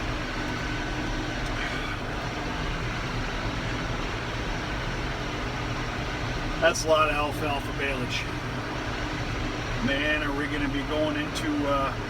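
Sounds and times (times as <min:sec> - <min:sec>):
tractor and baler running: 0:00.0 - 0:12.0.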